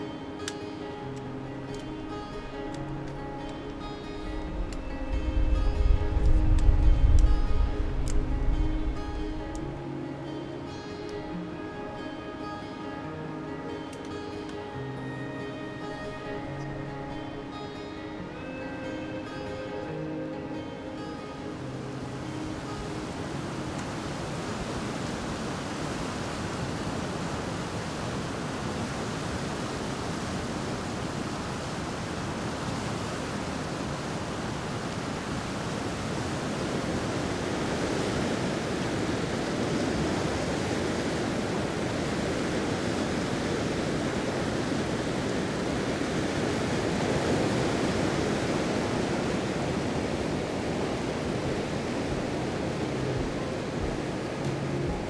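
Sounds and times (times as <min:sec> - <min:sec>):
river rapids rushing over rocks: 0:00.0 - 0:55.0.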